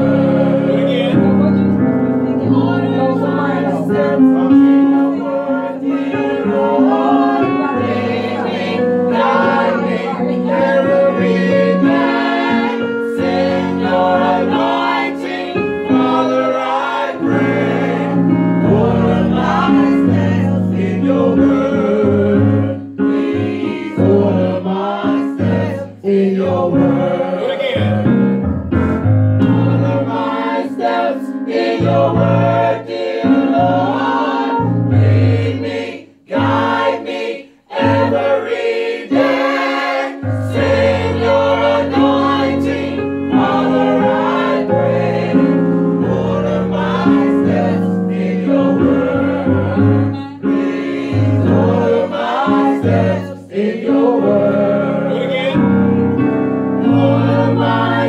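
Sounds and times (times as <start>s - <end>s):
vocal group singing in harmony: 0.0s - 28.6s, 29.3s - 58.0s.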